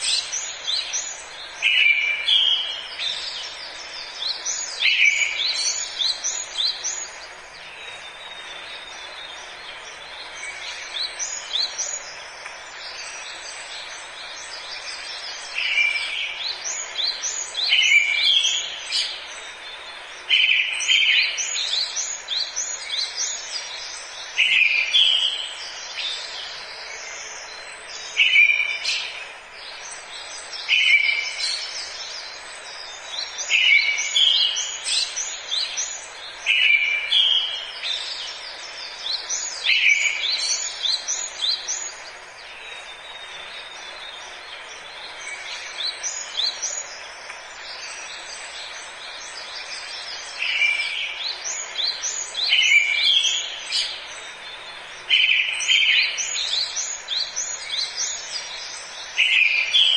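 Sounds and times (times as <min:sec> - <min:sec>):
songbirds singing: 0:00.0 - 0:59.9
steady hiss: 0:00.0 - 0:59.9.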